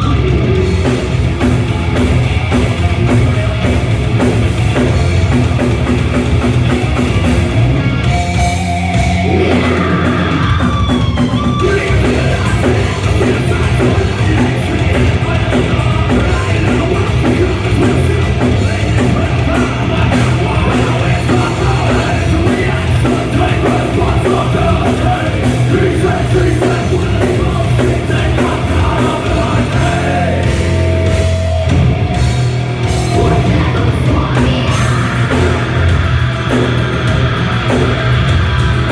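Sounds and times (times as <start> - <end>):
heavy rock music: 0.0 - 38.9
yelled vocals: 0.0 - 38.9.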